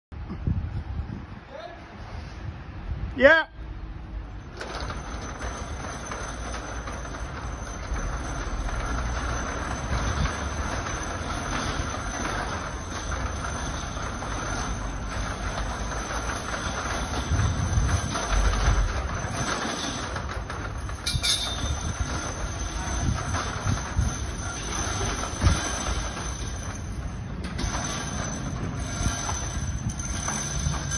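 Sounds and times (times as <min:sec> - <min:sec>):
roller shutter slats rattling: 0:04.2 - 0:30.9.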